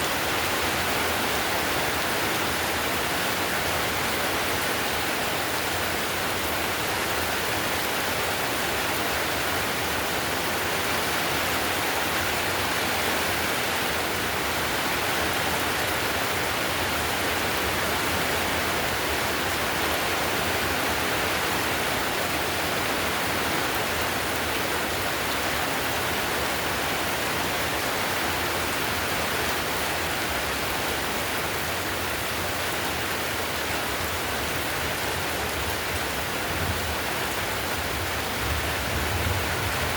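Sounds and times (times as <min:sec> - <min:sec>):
heavy rain on a tile roof: 0:00.0 - 0:39.9.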